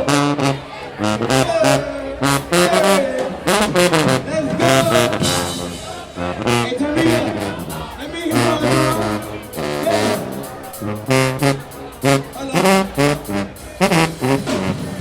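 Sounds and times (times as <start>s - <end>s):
brass horns: 0.0s - 15.0s
steady drum beat: 1.2s - 15.0s.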